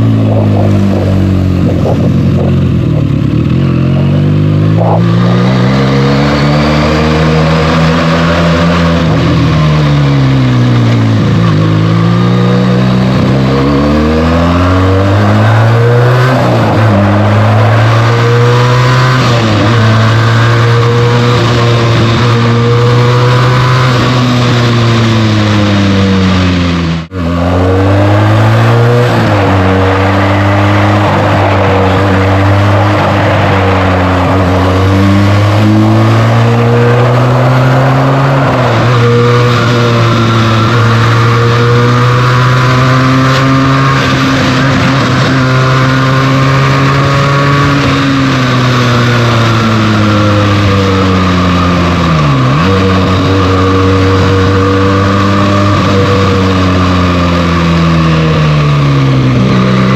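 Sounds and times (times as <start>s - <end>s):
motorcycle engine revving while riding: 0.0s - 59.9s.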